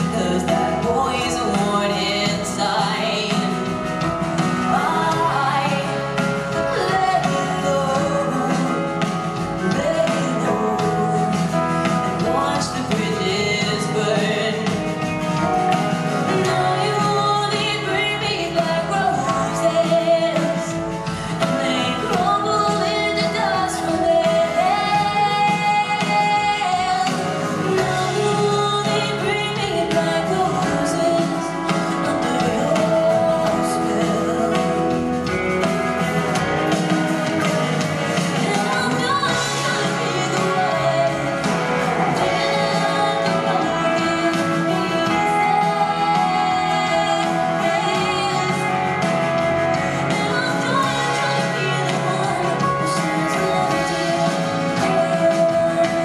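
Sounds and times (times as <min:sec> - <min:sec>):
live band playing: 0:00.0 - 0:56.0
woman singing: 0:00.0 - 0:56.0.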